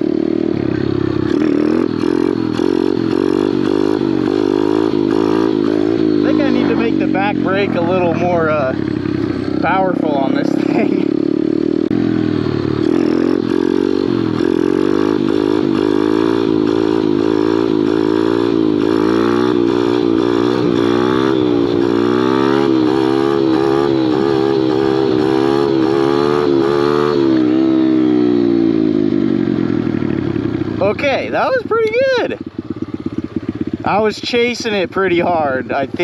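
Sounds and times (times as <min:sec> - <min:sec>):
small motorbike engine revving: 0:00.0 - 0:36.0.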